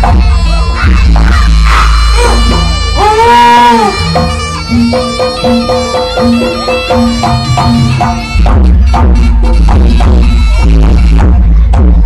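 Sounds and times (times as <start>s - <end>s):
shrill reed shawm melody: 0.0s - 11.7s
drums: 0.0s - 12.0s
gamelan: 0.0s - 12.0s
heavy low beat: 0.0s - 12.0s.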